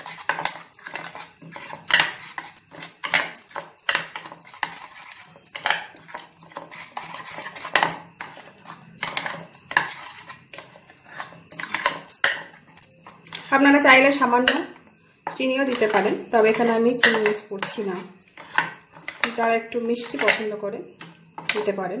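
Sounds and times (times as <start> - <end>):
spoon scraping ceramic bowl: 0.0 - 21.6.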